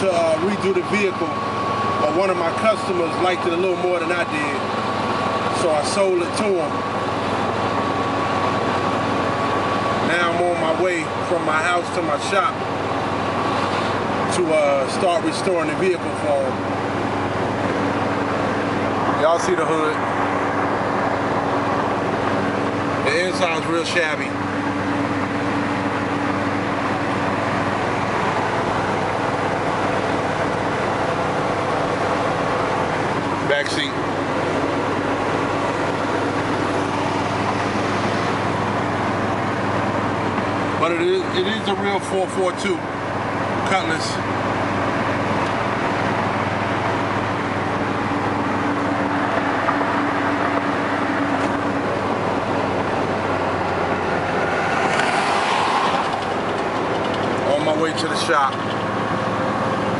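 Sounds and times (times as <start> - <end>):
car engine running: 0.0 - 59.9
road noise: 0.0 - 59.9.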